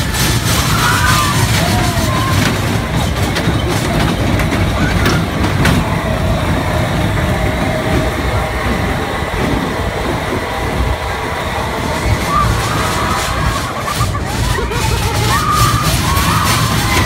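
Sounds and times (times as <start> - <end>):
faint voices: 0.0 - 17.0
roller coaster rumbling on track: 0.0 - 17.0.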